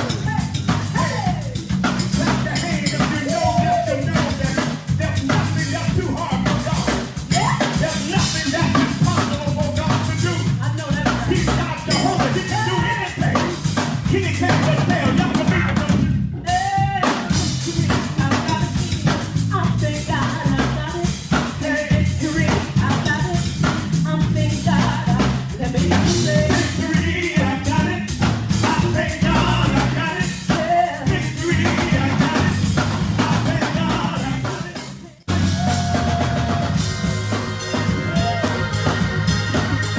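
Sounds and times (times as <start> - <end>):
bass: 0.0 - 39.9
drum kit: 0.0 - 39.9
gospel singing: 0.0 - 39.9.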